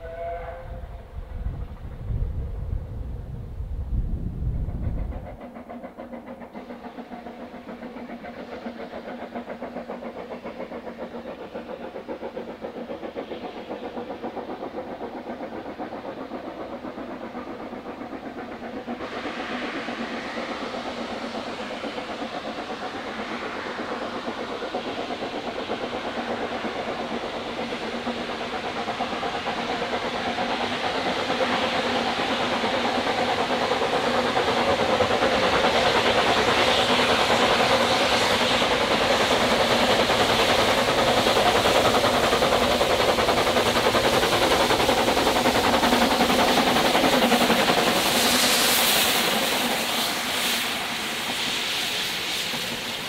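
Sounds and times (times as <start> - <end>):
steam locomotive exhaust beats: 0.0 - 53.0.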